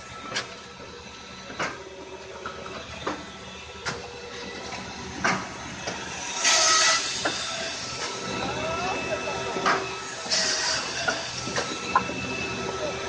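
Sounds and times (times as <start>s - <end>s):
firewood processor humming: 0.0s - 13.0s.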